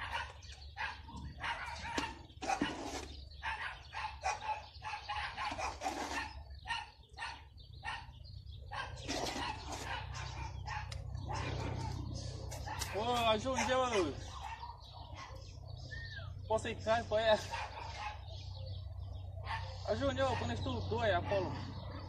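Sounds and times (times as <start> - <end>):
dog barking: 0.0 - 2.8, 3.4 - 15.6, 17.4 - 18.4, 19.4 - 22.0.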